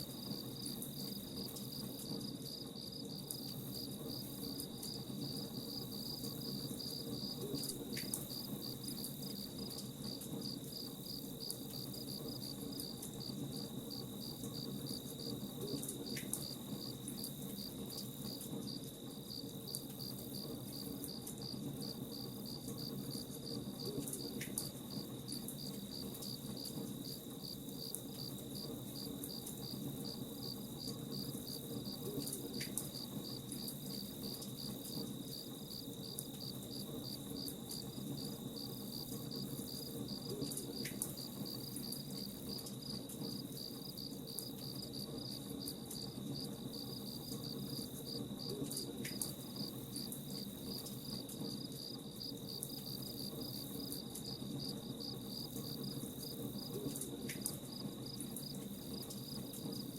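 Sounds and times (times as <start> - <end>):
crackling campfire: 0.0 - 54.5
crickets chirping: 0.0 - 59.9.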